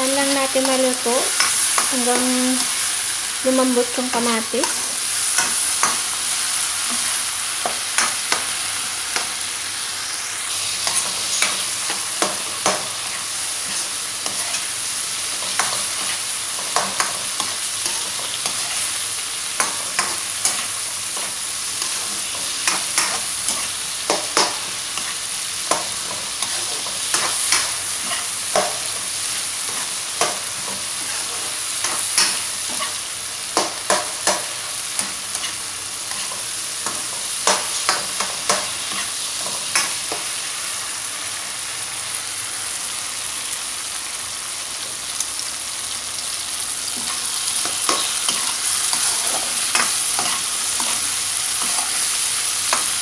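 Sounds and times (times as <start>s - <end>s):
food sizzling in a wok: 0.0s - 53.0s
spatula scraping and tapping wok: 0.4s - 2.3s, 4.1s - 9.4s, 10.8s - 40.4s, 46.9s - 53.0s.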